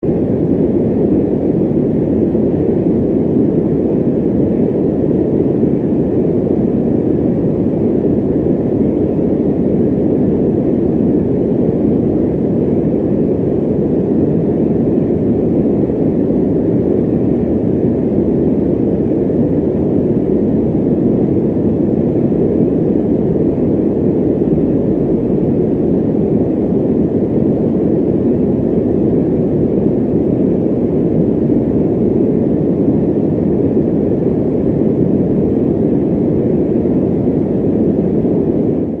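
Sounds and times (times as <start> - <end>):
fan running: 0.0 - 39.0.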